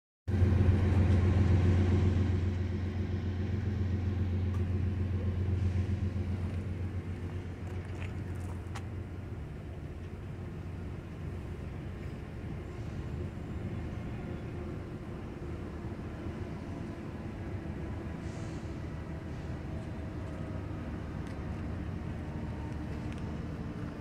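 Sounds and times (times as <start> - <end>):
low engine rumble: 0.3 - 24.0.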